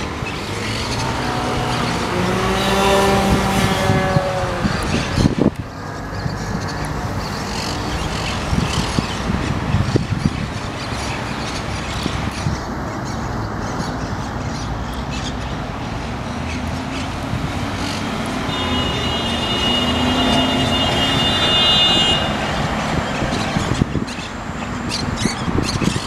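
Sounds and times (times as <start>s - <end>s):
city traffic noise: 0.0s - 26.0s
high vehicle whine: 0.0s - 26.0s
parakeets calling: 3.7s - 26.0s.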